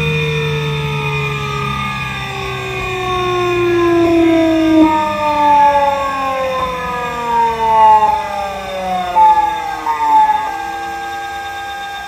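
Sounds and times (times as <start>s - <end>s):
inverter motor whining: 0.0s - 12.0s.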